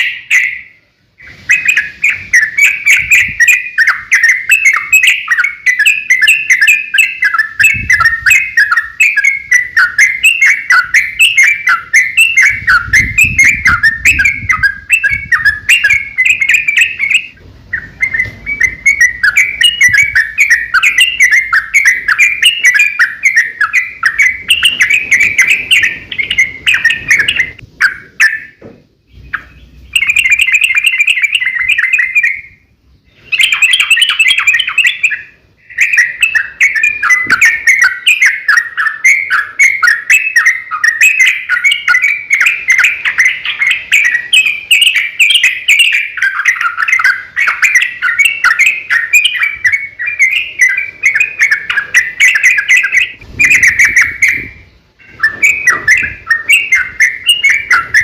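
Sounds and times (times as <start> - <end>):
bird singing chattering runs: 1.5 - 32.5, 33.1 - 58.0.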